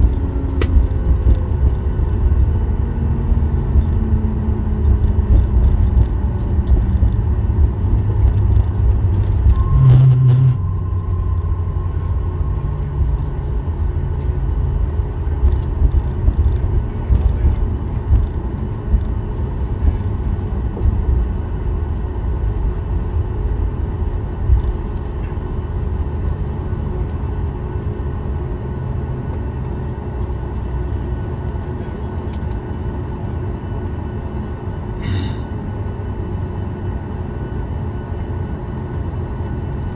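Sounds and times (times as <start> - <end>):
low rumble: 0.0 - 36.8
aircraft cabin engine hum: 0.0 - 39.9.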